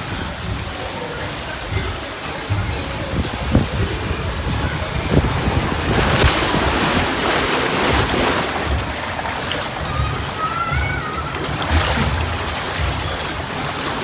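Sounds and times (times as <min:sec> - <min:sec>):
water rushing down a waterslide: 0:00.0 - 0:14.0
wind buffeting microphone: 0:00.0 - 0:14.0.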